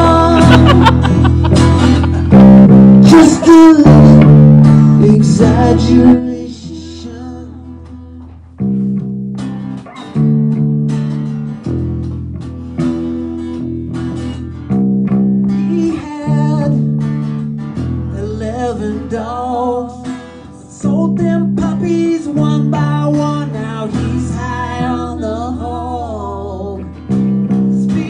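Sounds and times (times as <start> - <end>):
acoustic guitars strumming chords: 0.0 - 28.0.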